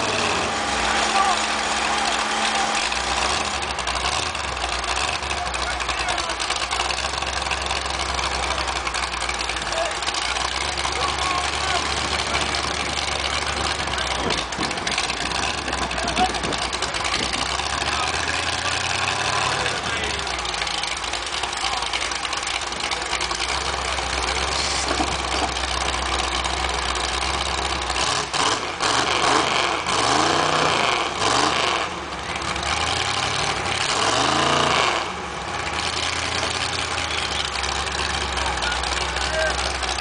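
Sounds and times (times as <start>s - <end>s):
engines revving: 0.0s - 40.0s
vehicle engines idling: 0.0s - 40.0s.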